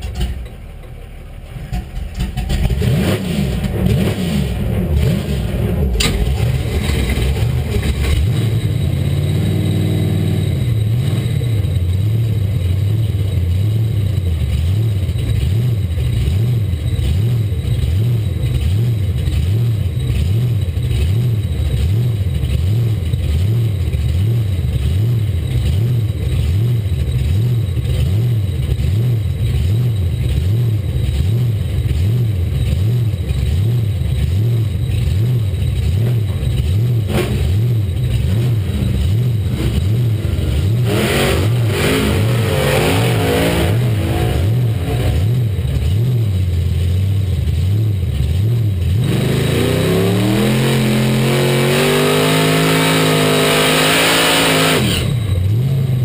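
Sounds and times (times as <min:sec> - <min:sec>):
car engine idling with lope: 0:00.0 - 0:56.0.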